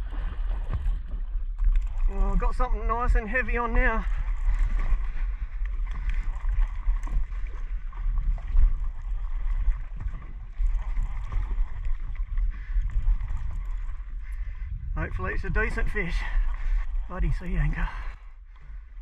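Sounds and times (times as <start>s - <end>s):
water sloshing against boat hull: 0.0s - 19.0s
wind rumbling on microphone: 0.0s - 19.0s.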